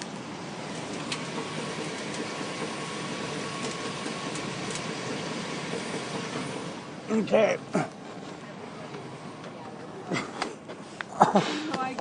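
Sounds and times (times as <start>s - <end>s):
drivetrain mechanical hum: 0.0s - 12.0s.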